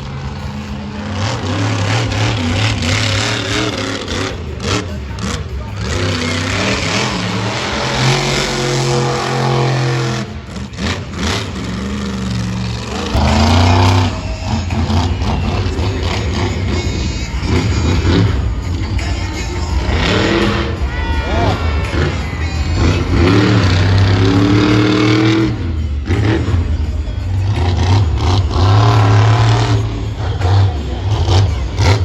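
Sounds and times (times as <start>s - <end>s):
monster truck engine revving: 0.0s - 32.0s.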